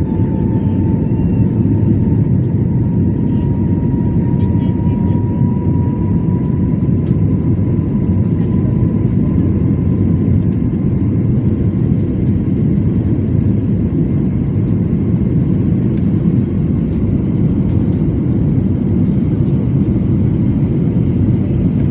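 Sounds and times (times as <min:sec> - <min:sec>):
aeroplane cabin engine rumble: 0:00.0 - 0:21.9.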